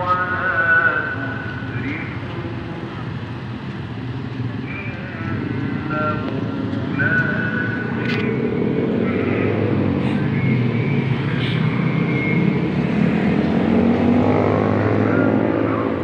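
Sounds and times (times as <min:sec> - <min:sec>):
cars passing: 0:00.0 - 0:16.0
motorcycles passing: 0:00.0 - 0:16.0.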